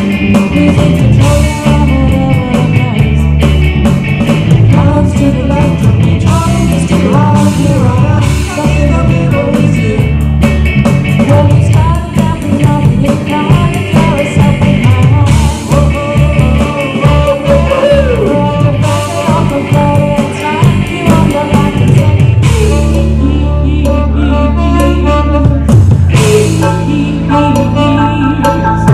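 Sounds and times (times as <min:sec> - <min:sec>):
live rock band playing: 0:00.0 - 0:28.9.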